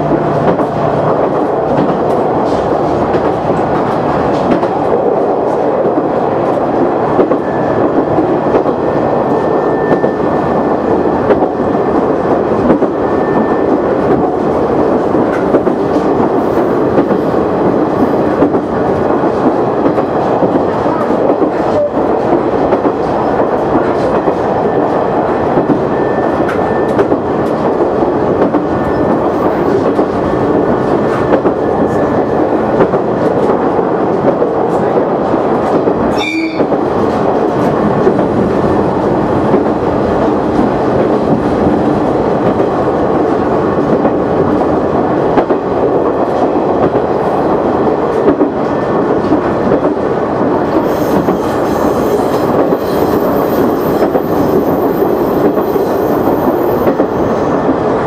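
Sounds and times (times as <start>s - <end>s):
rail joints clicking: 0.0s - 58.0s
train wheels and engine rumble: 0.0s - 58.0s.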